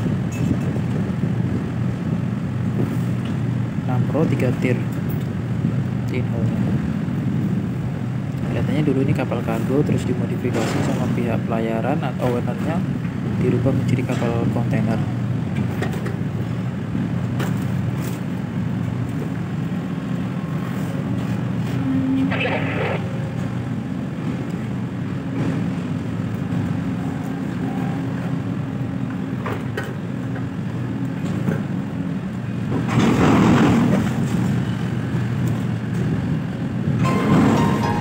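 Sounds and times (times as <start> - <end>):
low drone of cargo machinery: 0.0 - 38.0.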